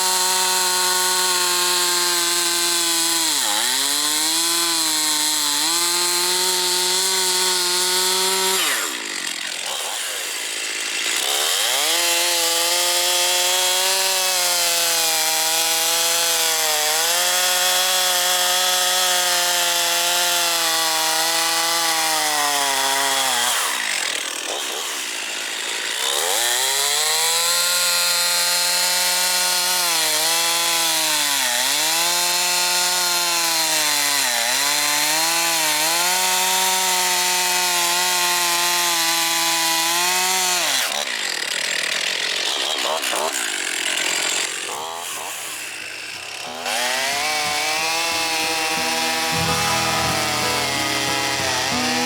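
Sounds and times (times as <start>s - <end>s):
chainsaw cutting log: 0.0s - 52.0s.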